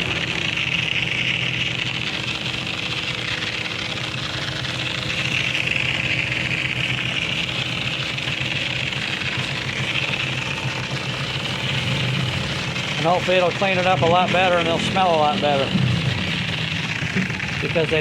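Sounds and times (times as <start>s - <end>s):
pressure washer jet hissing: 0.0s - 4.0s, 4.8s - 18.0s
pump motor humming: 0.0s - 18.0s.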